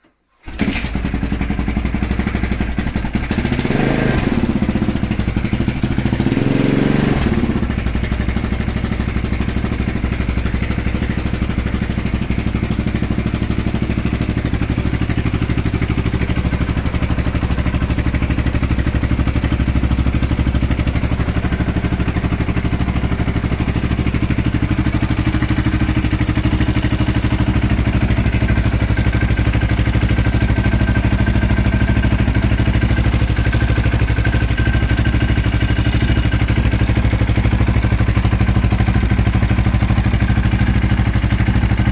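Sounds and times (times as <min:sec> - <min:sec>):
motorcycle engine idling: 0:00.5 - 0:41.9.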